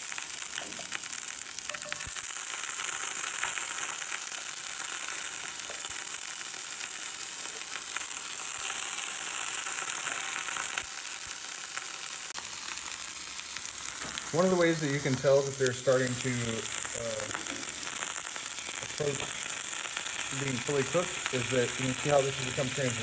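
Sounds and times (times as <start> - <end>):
grubs sizzling in hot oil: 0.0 - 23.0.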